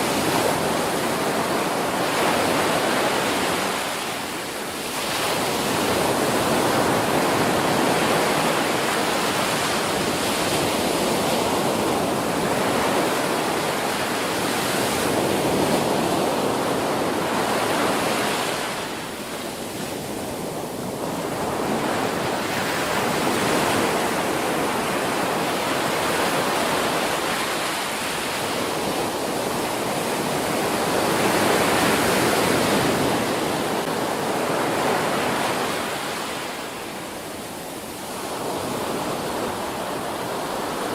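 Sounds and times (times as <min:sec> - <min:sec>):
waves breaking on a beach: 0:00.0 - 0:40.9.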